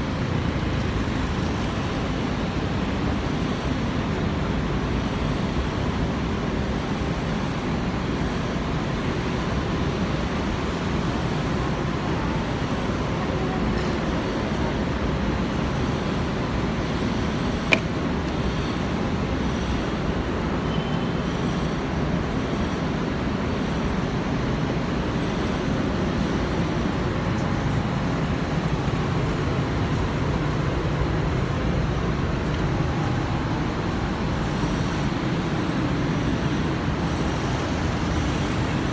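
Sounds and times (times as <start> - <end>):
city street traffic: 0.0 - 38.9.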